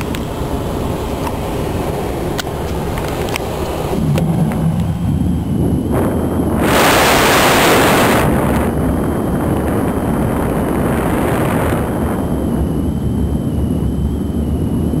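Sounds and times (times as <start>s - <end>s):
air rushing over glider canopy: 0.0s - 15.0s.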